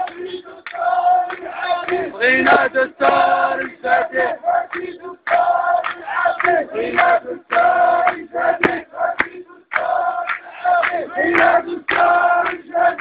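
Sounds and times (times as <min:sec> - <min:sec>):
crowd chanting slogans: 0:00.0 - 0:13.0.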